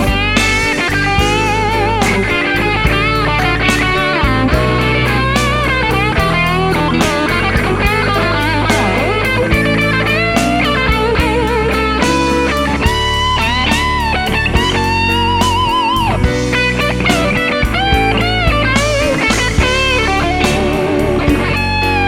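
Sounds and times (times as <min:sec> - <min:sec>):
bass and drums: 0:00.0 - 0:22.0
electric guitar lead: 0:00.0 - 0:22.0.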